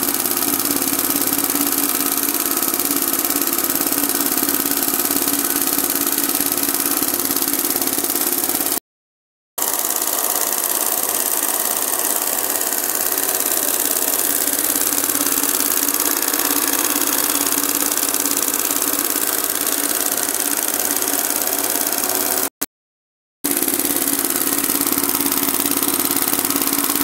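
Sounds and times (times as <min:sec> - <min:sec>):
embroidery machine chattering: 0:00.0 - 0:08.8, 0:09.6 - 0:22.5, 0:23.5 - 0:27.0.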